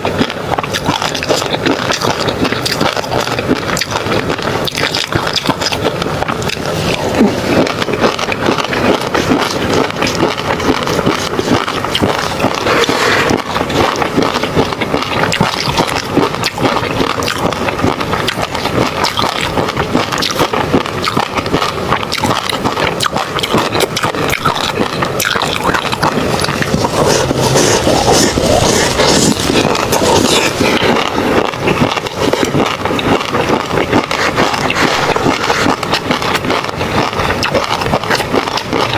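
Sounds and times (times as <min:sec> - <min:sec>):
crackling clicks: 0:00.0 - 0:38.9
mouth chewing: 0:00.0 - 0:38.9
wet mouth smacks: 0:00.1 - 0:38.9.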